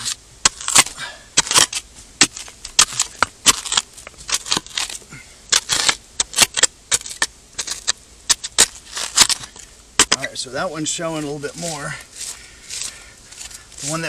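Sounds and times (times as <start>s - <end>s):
metal spade chopping gravelly mud: 0.0s - 10.4s, 11.2s - 14.0s.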